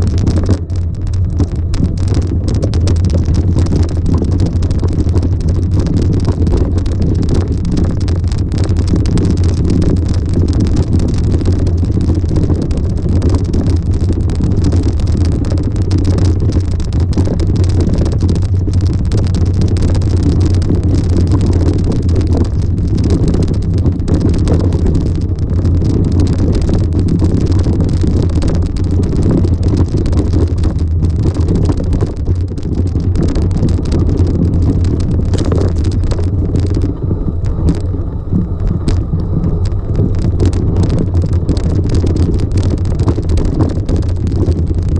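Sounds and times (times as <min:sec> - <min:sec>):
vehicle engine droning: 0:00.0 - 0:44.9.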